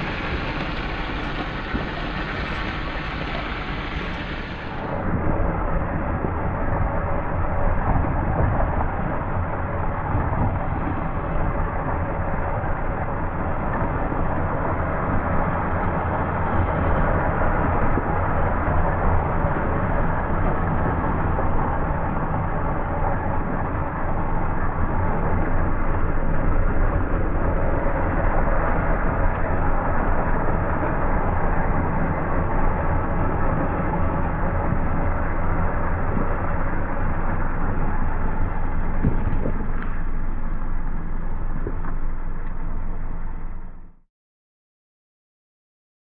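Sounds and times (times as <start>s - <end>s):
low mechanical running noise: 0.0s - 44.0s.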